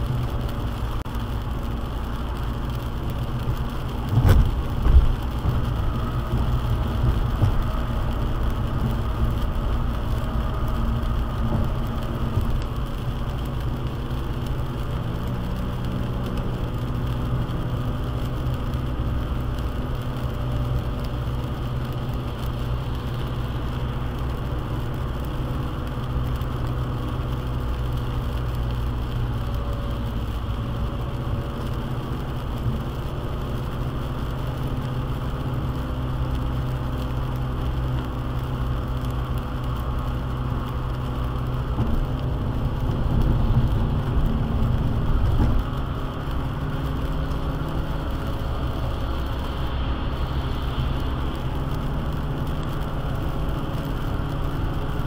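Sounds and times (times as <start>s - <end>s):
road and engine rumble: 0.0s - 55.0s
tyres hissing on wet pavement: 0.0s - 55.0s.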